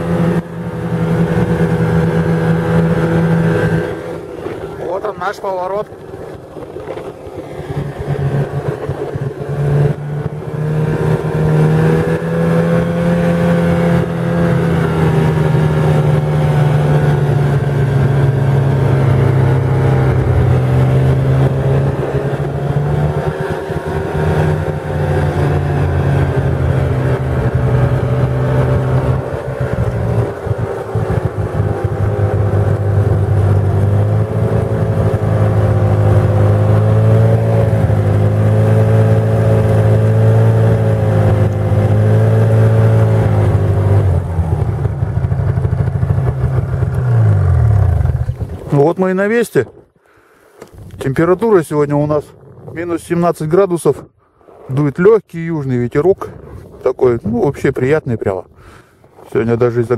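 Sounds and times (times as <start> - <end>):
snowmobile engine running: 0.0 - 49.7.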